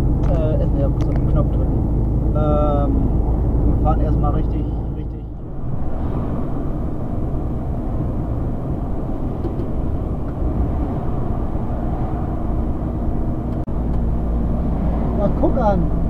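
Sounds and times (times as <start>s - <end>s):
road noise: 0.0s - 16.0s
truck engine drone: 0.0s - 16.0s.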